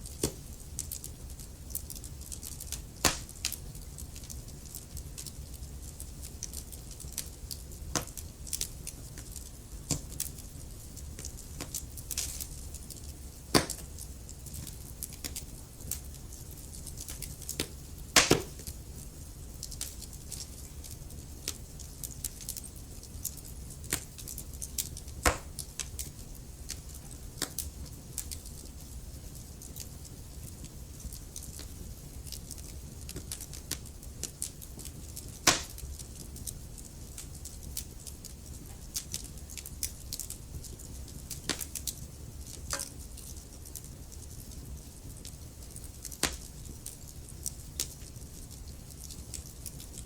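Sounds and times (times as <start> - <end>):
fire crackling and popping: 0.0 - 50.0
low fire rumble: 0.0 - 50.0.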